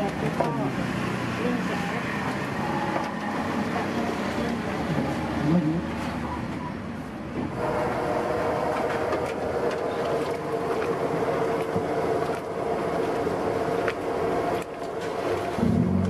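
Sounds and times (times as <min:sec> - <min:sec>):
mechanical hum and rumble: 0:00.0 - 0:16.0.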